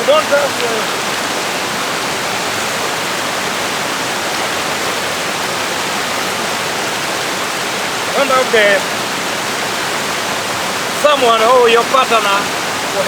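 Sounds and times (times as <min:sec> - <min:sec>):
waterfall splashing: 0:00.0 - 0:13.0.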